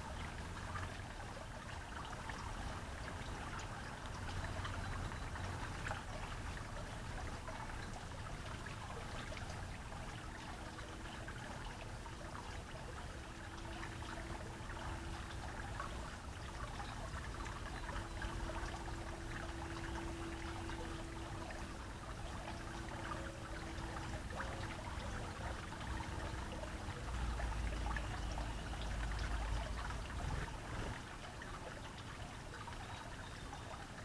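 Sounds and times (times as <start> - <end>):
faint steady hum: 0.0 - 34.0
trickling water: 0.0 - 34.0.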